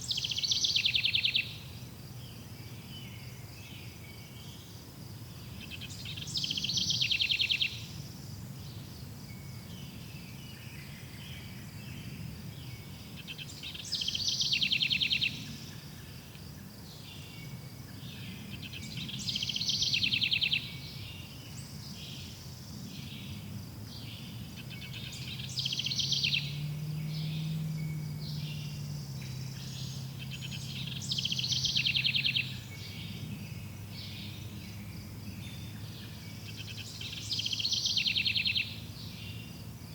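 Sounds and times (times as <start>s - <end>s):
insects chirping: 0.0s - 39.9s
songbird singing with trill: 0.0s - 39.9s.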